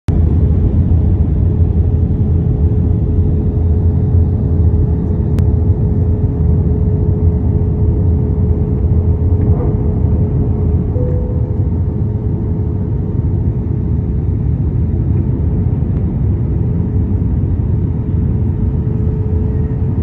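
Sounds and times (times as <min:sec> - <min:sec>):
airliner cabin rumble: 0:00.1 - 0:20.0.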